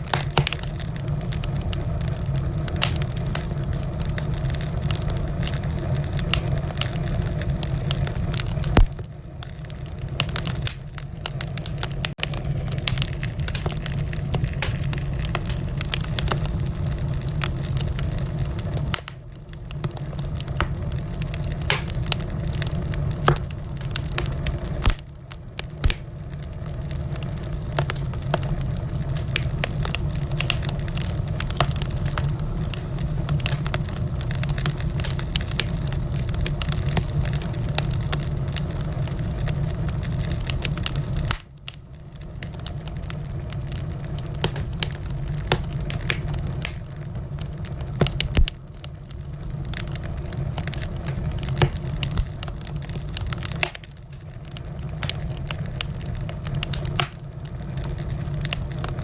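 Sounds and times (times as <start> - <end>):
fire crackling and popping: 0.0 - 59.0
fire flames rumbling: 0.0 - 59.0.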